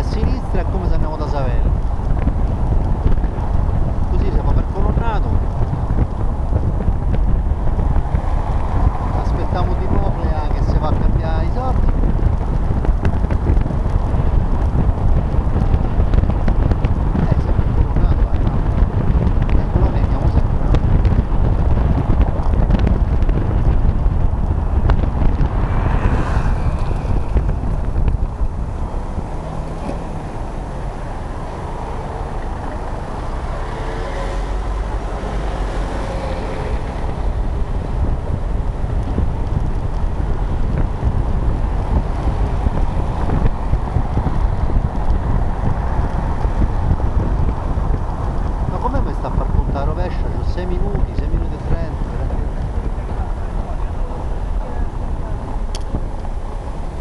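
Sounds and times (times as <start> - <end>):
car road noise on cobblestones: 0.0 - 57.0
wind rumbling on microphone: 0.0 - 57.0.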